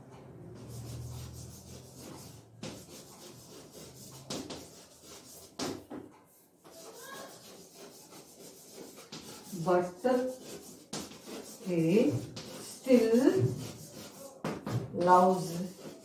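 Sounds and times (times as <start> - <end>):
chalk scratching on blackboard: 0.6 - 16.0
chalk tapping on board: 0.6 - 16.0.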